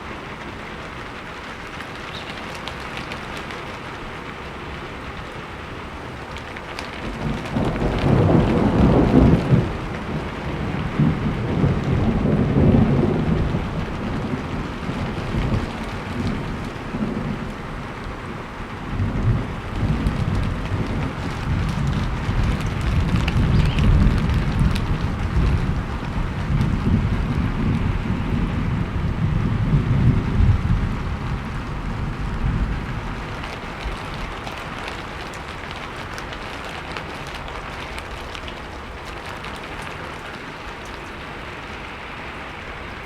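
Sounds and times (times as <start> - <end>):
steady rain falling: 0.0 - 43.0
thunder rumbling: 6.2 - 43.0.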